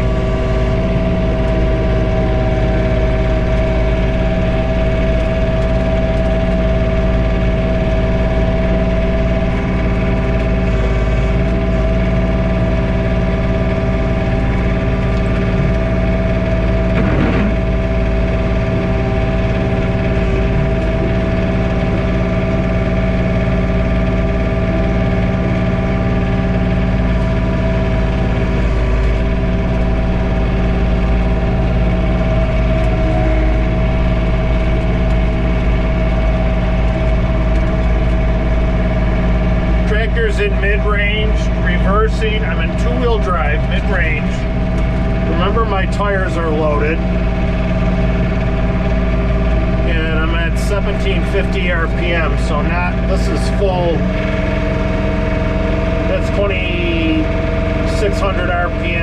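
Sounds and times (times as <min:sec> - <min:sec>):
constant whine: 0:00.0 - 0:59.0
tractor diesel engine running: 0:00.0 - 0:59.0.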